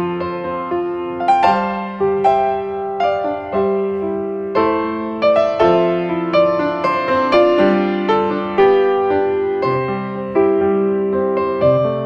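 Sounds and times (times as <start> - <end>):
gentle piano notes: 0.0 - 12.0.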